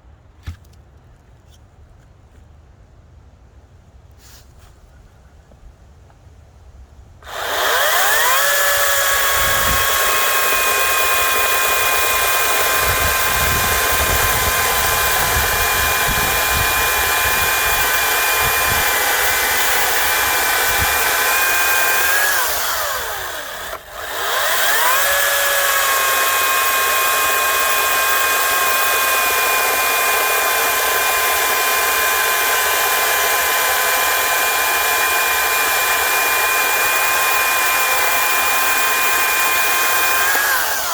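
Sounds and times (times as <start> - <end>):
cordless chainsaw whining: 7.2 - 40.9.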